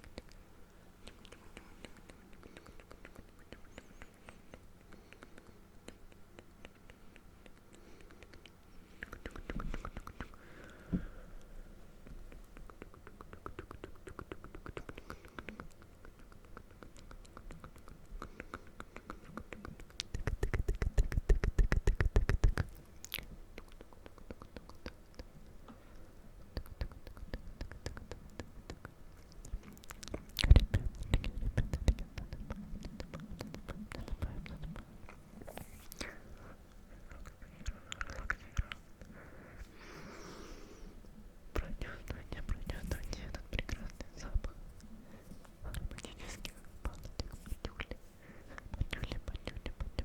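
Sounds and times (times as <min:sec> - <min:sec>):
mouth clicks and smacks: 0:00.0 - 0:10.8, 0:11.4 - 0:39.9, 0:41.5 - 0:50.0.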